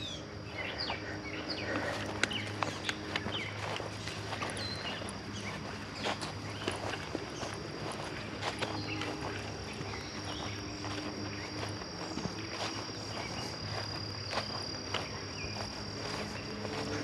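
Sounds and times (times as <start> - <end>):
footsteps on trail: 0.0 - 17.0
insects droning: 0.0 - 17.0
songbird chirps: 0.0 - 17.0.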